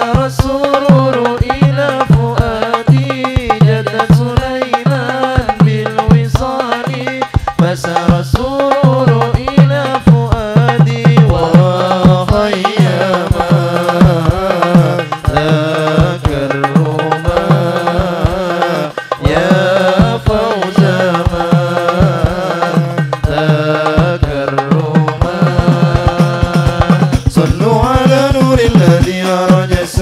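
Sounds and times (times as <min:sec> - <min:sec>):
hand drums beating: 0:00.0 - 0:30.0
man singing devotional line: 0:00.0 - 0:30.0.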